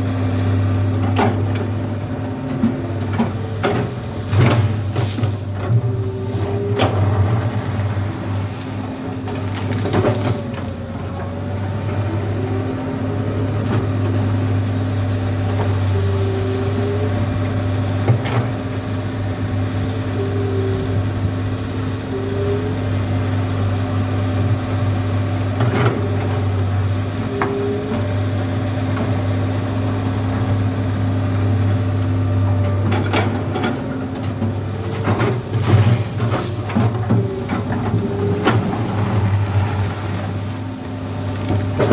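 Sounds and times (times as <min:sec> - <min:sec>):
excavator diesel engine running: 0:00.0 - 0:41.9
hydraulic whines: 0:00.0 - 0:41.9.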